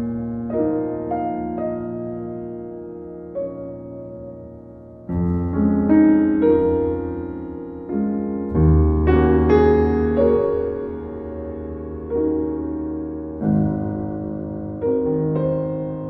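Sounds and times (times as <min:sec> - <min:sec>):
deep bass piano chords: 0:00.0 - 0:16.0
piano music: 0:00.0 - 0:16.0.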